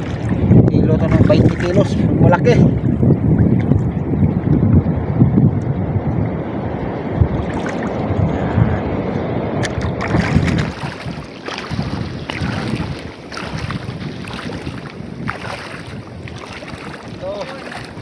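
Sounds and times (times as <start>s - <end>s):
water sloshing and splashing: 0.0s - 8.5s, 9.1s - 18.0s
wind buffeting microphone: 0.0s - 18.0s.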